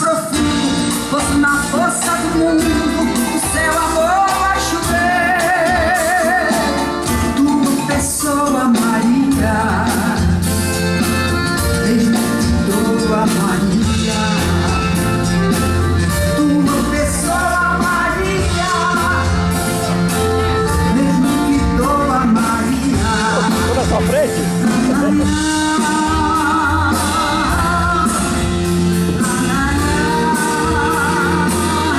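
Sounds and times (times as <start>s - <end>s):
bass guitar: 0.0s - 31.9s
person singing with vibrato: 0.0s - 31.9s
drum beat: 1.2s - 31.9s.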